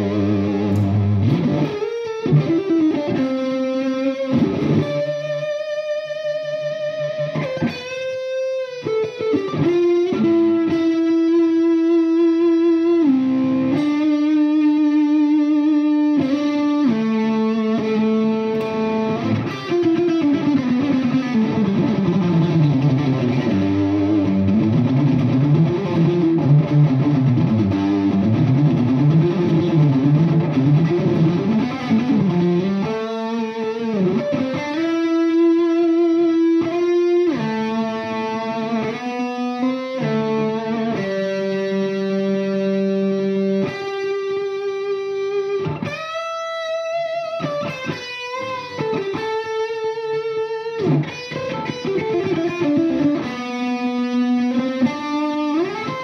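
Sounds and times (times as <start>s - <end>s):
electric guitar: 0.0s - 56.0s.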